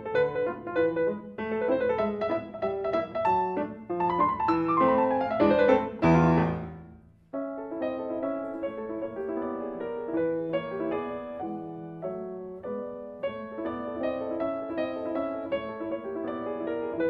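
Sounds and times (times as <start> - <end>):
solo grand piano: 0.0 - 17.0.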